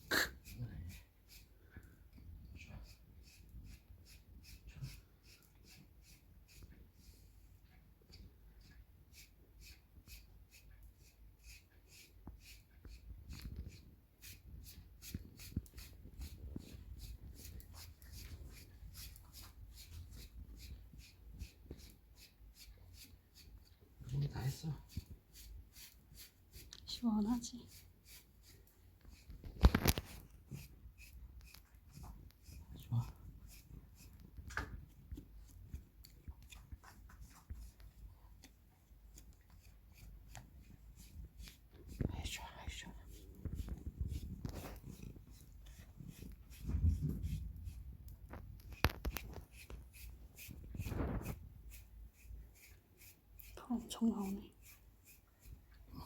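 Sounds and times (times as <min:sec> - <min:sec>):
brush scratching through fur: 0:00.0 - 0:07.5, 0:08.6 - 0:56.0.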